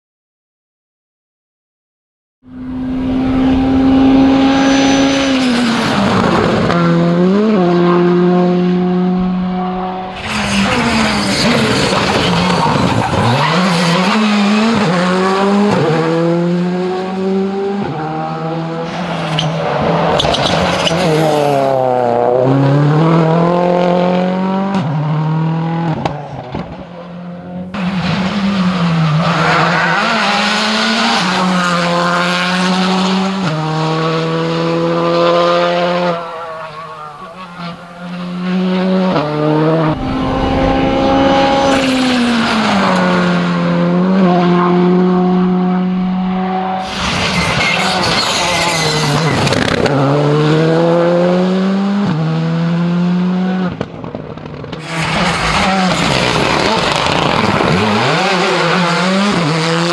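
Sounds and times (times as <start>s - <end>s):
rally car engines revving: 2.5s - 59.9s.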